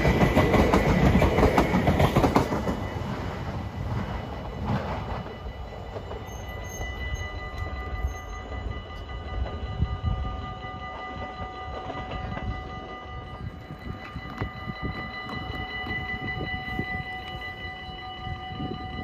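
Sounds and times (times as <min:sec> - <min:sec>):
steady high tones: 0:00.0 - 0:19.0.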